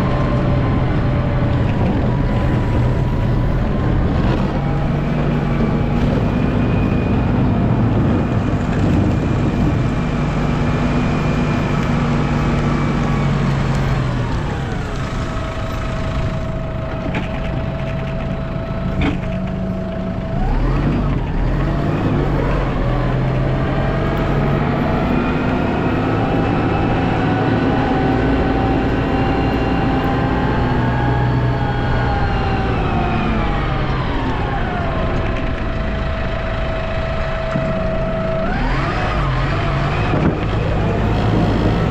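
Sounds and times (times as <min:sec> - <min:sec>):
snow plow engine under load: 0:00.0 - 0:41.9.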